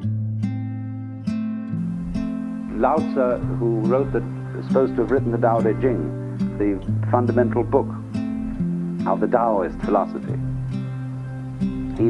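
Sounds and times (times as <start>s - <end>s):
acoustic guitar music: 0.0s - 12.0s
sustained low bass notes: 1.9s - 12.0s.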